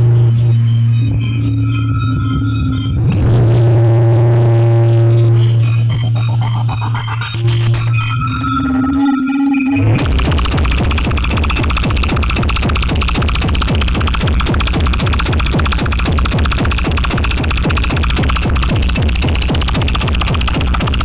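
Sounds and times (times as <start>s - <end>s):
electronic music with deep bass: 0.0s - 21.0s.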